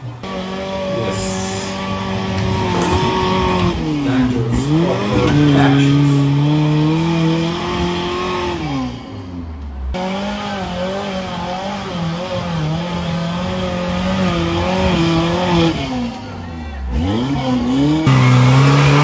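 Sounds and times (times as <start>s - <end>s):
pickup engine revving under load: 0.0s - 19.0s.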